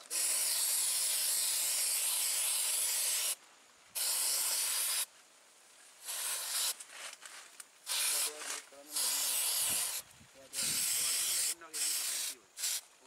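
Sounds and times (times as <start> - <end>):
aerosol spray hissing: 0.0 - 3.4, 4.0 - 5.1, 6.0 - 6.8, 7.8 - 13.0.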